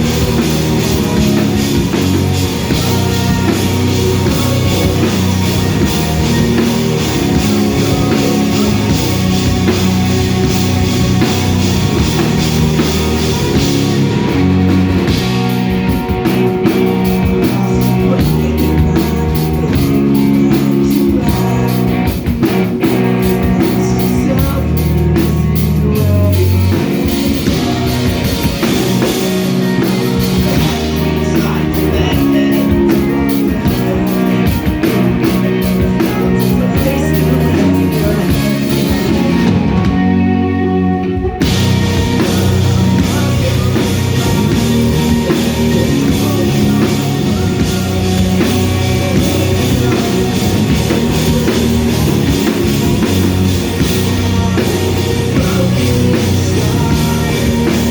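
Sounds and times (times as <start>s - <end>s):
bass guitar: 0.0s - 57.9s
drum kit: 0.0s - 57.9s
electric guitar: 0.0s - 57.9s.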